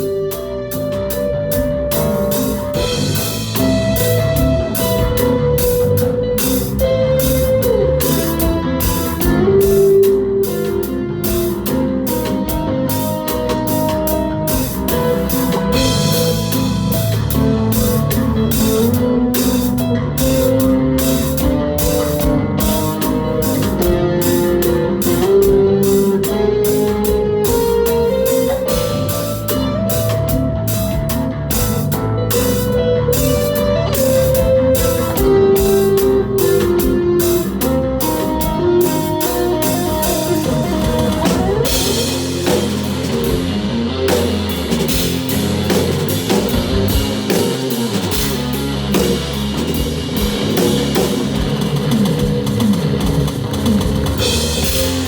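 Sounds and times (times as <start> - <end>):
instrumental rock band playing: 0.0 - 55.0.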